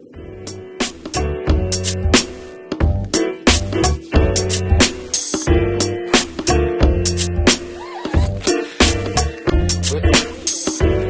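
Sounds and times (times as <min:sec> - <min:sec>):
steady drum beat: 0:00.8 - 0:11.0.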